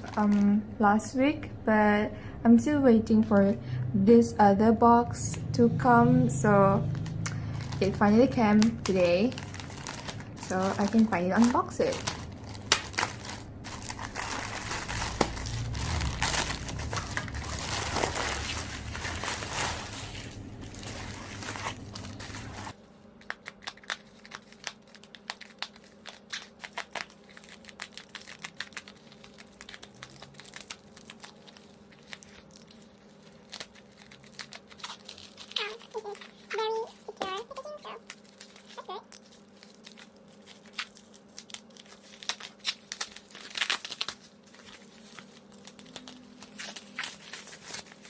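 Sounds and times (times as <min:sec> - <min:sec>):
packaging crinkling and tearing: 0:00.0 - 0:00.5, 0:06.7 - 0:48.0.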